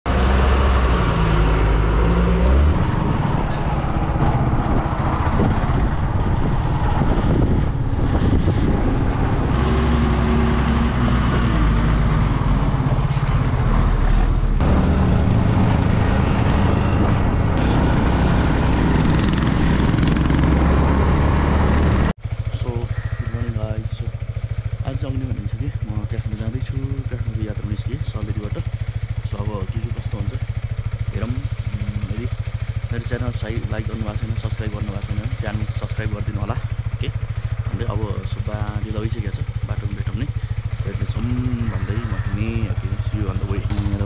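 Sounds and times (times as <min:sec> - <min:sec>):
motorcycle engine running: 0:00.0 - 0:44.0
road and wind rumble: 0:00.0 - 0:44.0.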